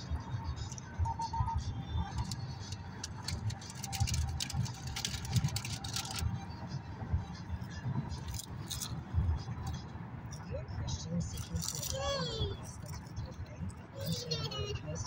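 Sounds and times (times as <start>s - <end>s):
car radio broadcast: 0.0s - 15.0s
road and tyre rumble: 0.0s - 15.0s.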